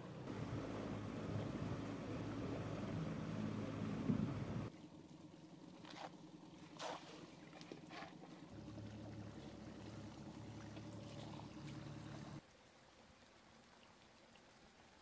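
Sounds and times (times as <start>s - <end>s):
boat motor humming: 0.0s - 12.4s
faint hiss of air and water: 0.0s - 15.0s.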